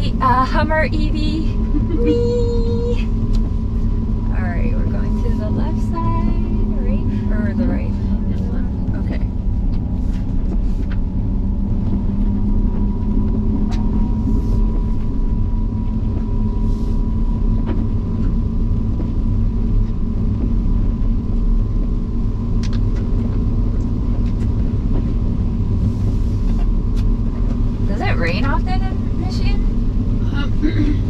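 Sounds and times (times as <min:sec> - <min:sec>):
faint steady hum: 0:00.0 - 0:31.0
road and tyre rumble: 0:00.0 - 0:31.0.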